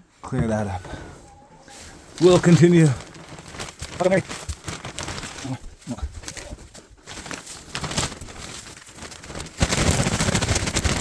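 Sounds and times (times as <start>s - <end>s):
wood shavings rustling: 1.6s - 11.0s.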